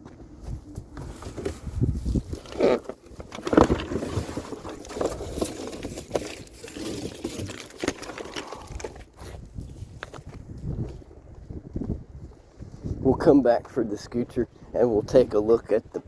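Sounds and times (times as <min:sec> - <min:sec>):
footsteps: 0:00.0 - 0:02.5, 0:03.1 - 0:13.8
handling noise scuffs and rustles: 0:00.0 - 0:13.0.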